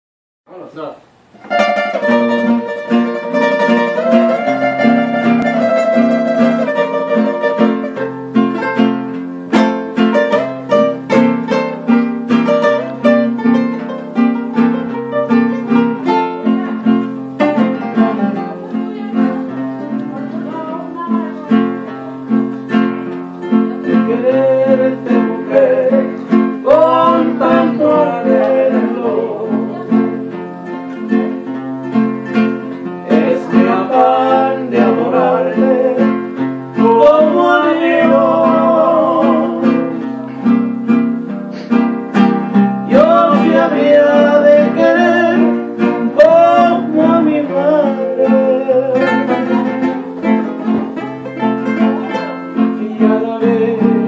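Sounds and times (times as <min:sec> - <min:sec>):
two acoustic guitars playing: 0:00.9 - 0:54.0.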